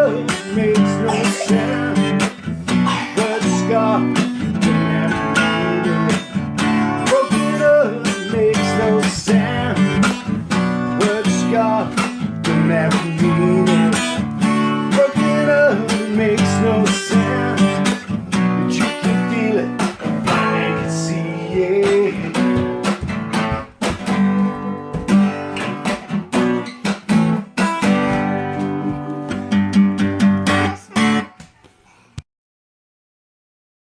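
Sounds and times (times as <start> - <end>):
acoustic guitar music: 0.0 - 31.6.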